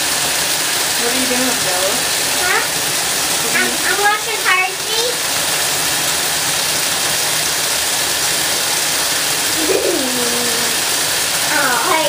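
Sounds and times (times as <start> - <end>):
tap water rushing into tub: 0.0 - 12.0.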